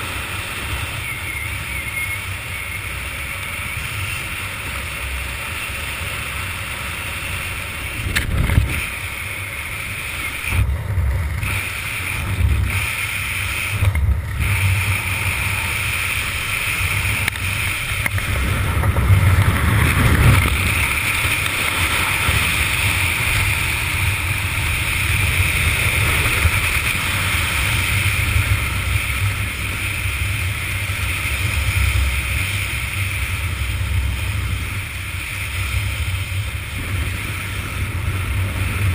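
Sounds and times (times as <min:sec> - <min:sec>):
wind rushing over microphone: 0:07.5 - 0:38.9.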